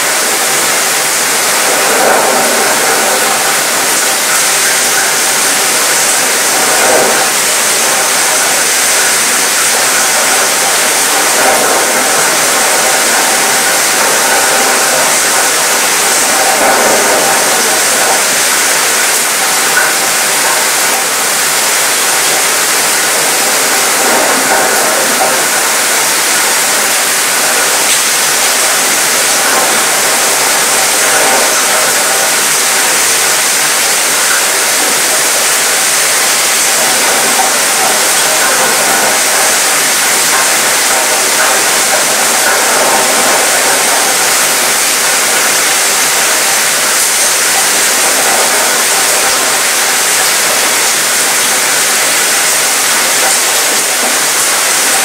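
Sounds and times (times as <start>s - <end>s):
rain pattering on metal: 0.0s - 55.0s.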